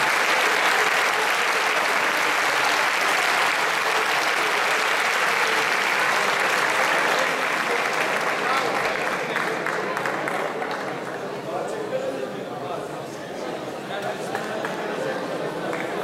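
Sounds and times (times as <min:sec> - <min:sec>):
large audience applauding: 0:00.0 - 0:11.4, 0:14.3 - 0:16.0.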